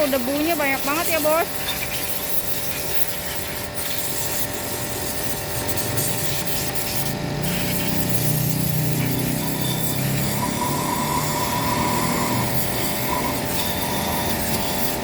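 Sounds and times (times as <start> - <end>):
compressed air blow gun hissing: 0.0 - 15.0.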